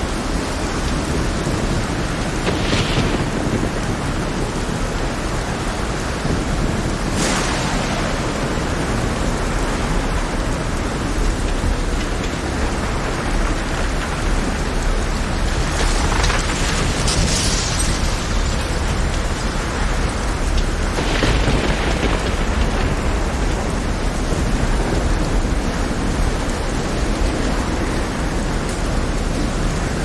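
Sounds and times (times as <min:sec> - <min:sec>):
deep rumble of rough sea: 0:00.0 - 0:30.0
heavy rain hissing: 0:00.0 - 0:30.0
splashing surges: 0:00.0 - 0:30.0.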